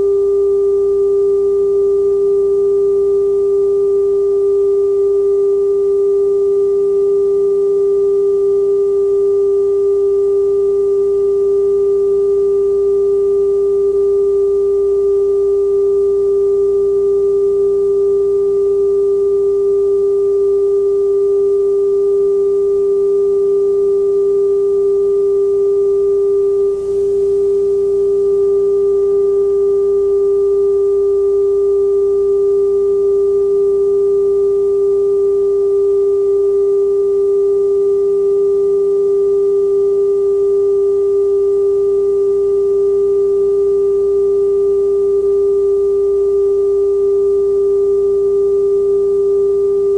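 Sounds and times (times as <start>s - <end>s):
steady pure test tone: 0.0s - 49.9s.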